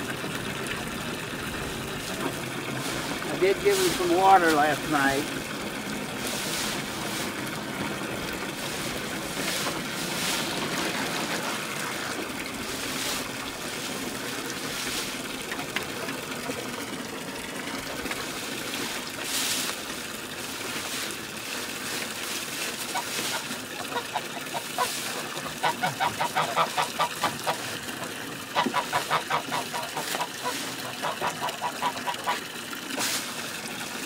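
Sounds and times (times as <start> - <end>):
hose water splashing into pool: 0.0 - 34.0.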